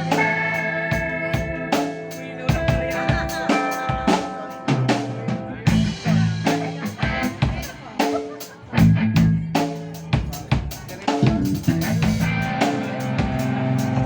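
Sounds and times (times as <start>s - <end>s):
band playing music: 0.0s - 14.0s
drum kit beat: 0.0s - 14.0s.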